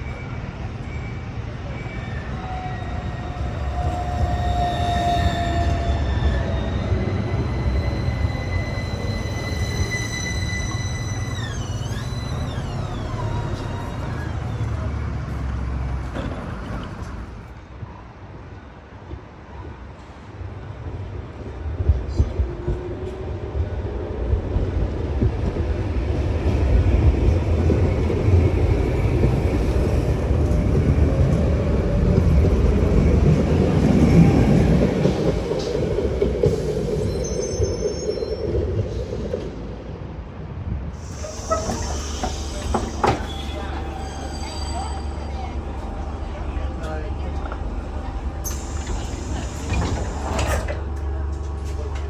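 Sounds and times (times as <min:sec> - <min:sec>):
tram rumbling on rails: 0:00.0 - 0:52.0.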